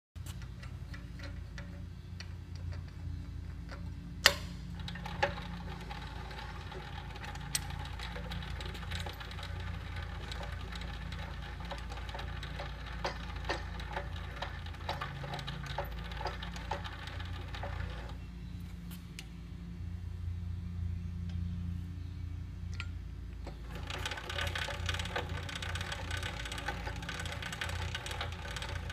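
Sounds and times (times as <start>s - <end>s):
geared actuator running: 0.2s - 18.2s, 22.8s - 28.9s
small metal clicks: 0.2s - 18.2s, 22.7s - 28.9s.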